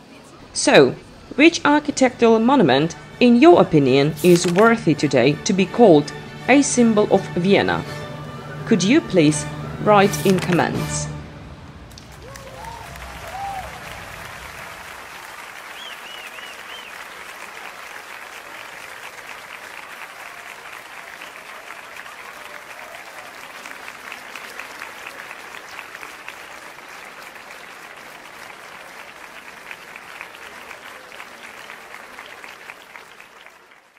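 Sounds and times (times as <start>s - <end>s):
crowd applause: 0.0s - 6.2s, 6.8s - 33.9s.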